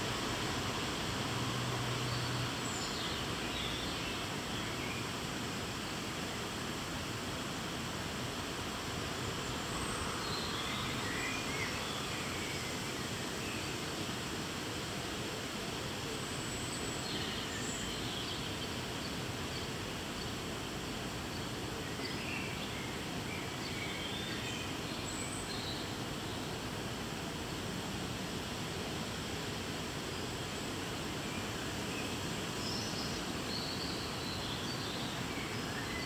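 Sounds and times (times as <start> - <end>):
outdoor background hiss: 0.0 - 36.0.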